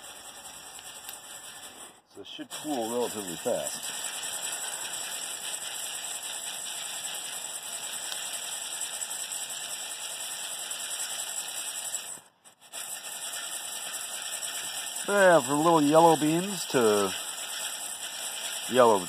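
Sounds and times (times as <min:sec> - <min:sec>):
coffee beans stirred in a metal bowl: 0:00.0 - 0:19.0
steady rushing hiss: 0:00.0 - 0:19.0.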